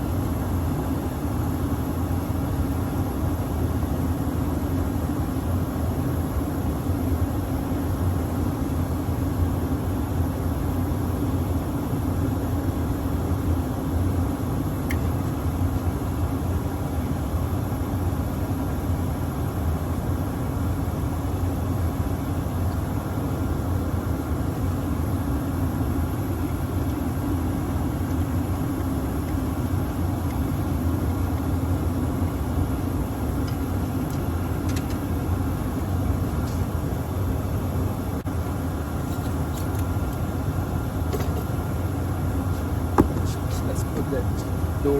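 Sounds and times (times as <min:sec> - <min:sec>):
hvac unit humming: 0:00.0 - 0:44.9.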